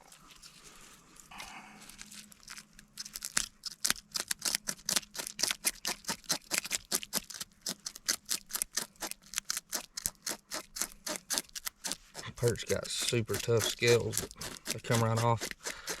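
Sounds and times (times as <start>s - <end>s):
knife scraping fish scales: 1.9s - 16.0s.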